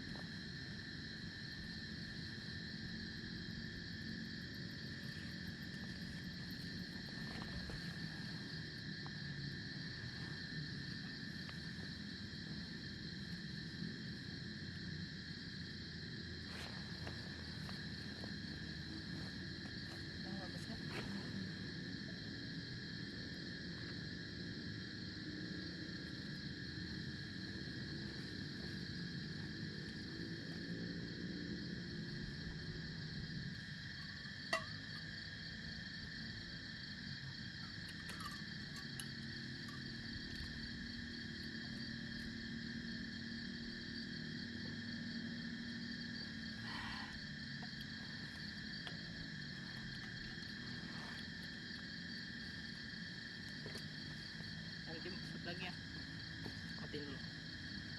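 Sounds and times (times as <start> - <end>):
crickets and insects trilling: 0.0 - 57.9.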